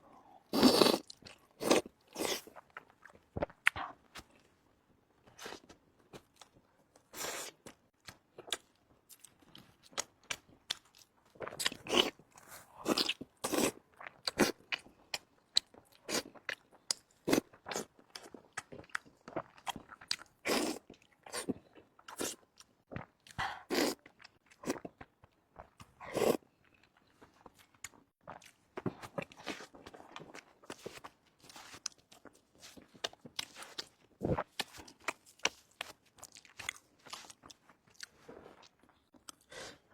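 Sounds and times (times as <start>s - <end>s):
person chewing crunchy food: 0.4s - 4.5s, 5.2s - 39.9s.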